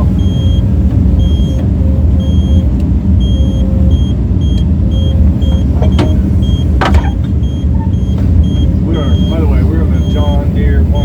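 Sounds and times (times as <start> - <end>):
excavator diesel engine running: 0.0 - 11.0
warning beeper beeping: 0.0 - 11.0.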